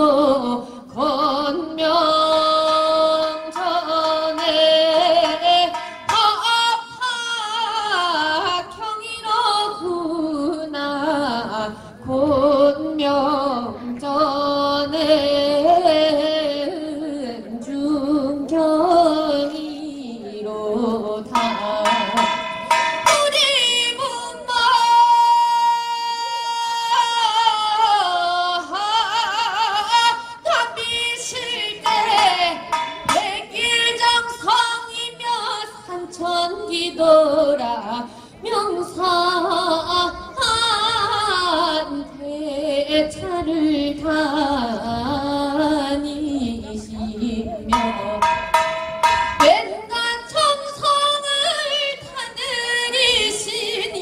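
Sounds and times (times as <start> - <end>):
woman singing ornamented melody: 0.0 - 48.4.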